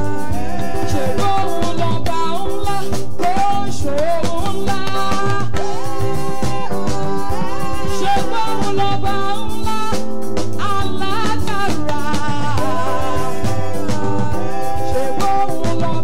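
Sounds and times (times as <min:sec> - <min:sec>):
drum kit beat: 0:00.0 - 0:16.0
woman singing lead: 0:00.0 - 0:16.0.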